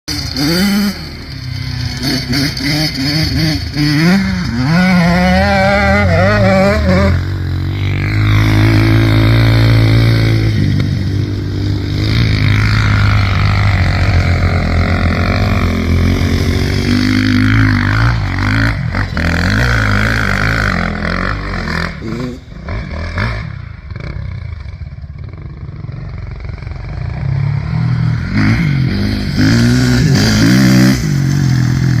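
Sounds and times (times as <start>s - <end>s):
dirt bike engines revving: 0.1s - 32.0s.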